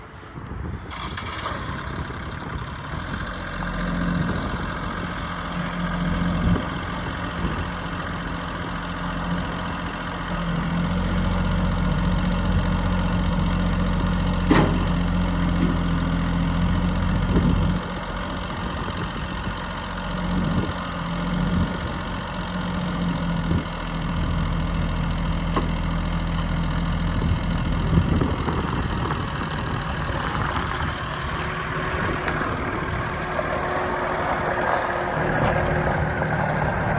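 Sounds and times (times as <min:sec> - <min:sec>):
tractor diesel engine humming: 0:00.0 - 0:36.9.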